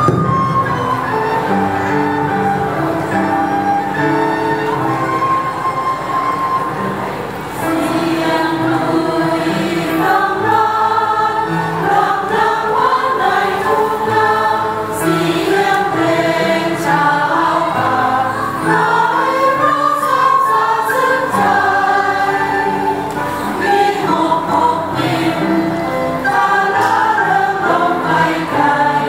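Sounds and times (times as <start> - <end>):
duct flute playing: 0.0 - 9.2, 12.8 - 28.2
choir singing a hymn: 0.0 - 29.0.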